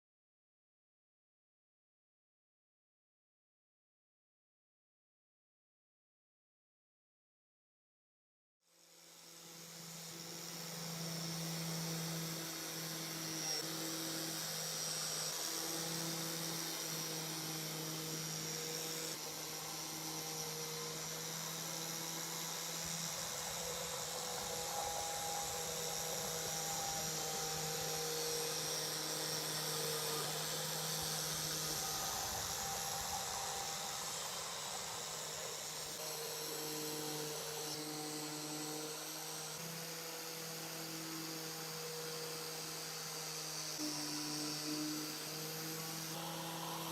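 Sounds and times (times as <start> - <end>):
small power tool whining: 8.7 - 46.9.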